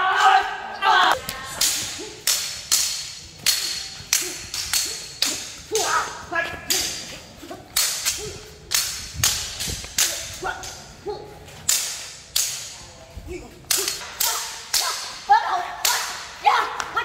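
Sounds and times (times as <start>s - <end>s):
sword blades clashing: 1.5s - 10.9s, 11.5s - 12.8s, 13.6s - 17.0s.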